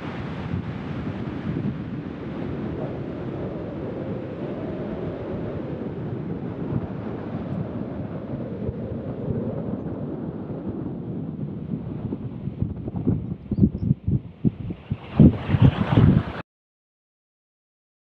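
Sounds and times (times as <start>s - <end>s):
wind buffeting the microphone: 0.0s - 16.4s.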